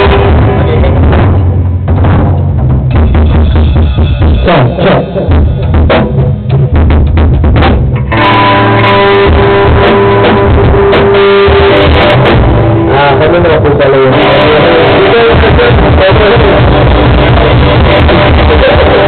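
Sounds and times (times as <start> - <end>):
drums: 0.0 - 19.0
guitar chords crashing: 0.0 - 19.0
rock band playing live: 0.0 - 19.0.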